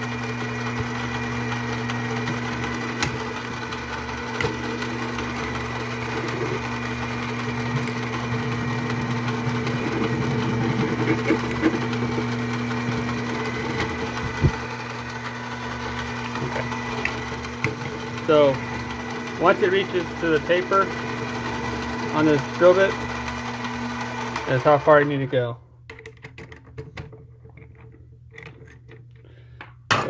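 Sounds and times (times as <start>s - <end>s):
lathe motor hum: 0.0s - 25.3s.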